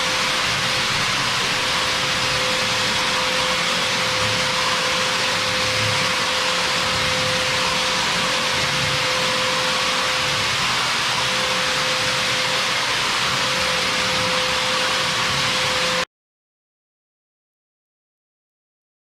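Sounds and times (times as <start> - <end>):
wall sander running: 0.0 - 16.1.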